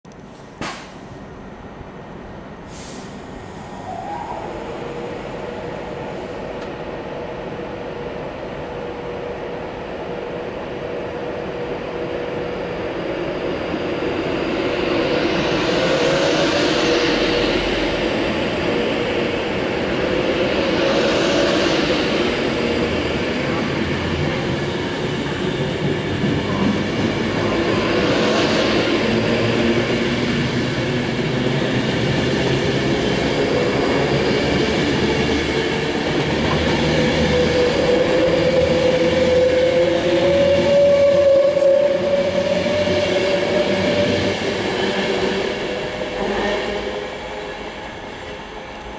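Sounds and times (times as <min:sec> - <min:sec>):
train wheels rumbling on rail: 0:00.2 - 0:01.6, 0:02.6 - 0:48.9.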